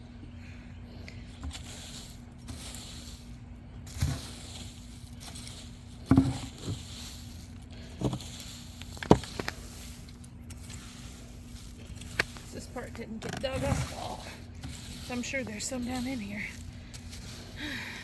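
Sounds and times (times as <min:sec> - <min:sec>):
dirt and plant stems rustling: 0:00.8 - 0:18.0
dull thuds of digging soil: 0:01.4 - 0:17.6.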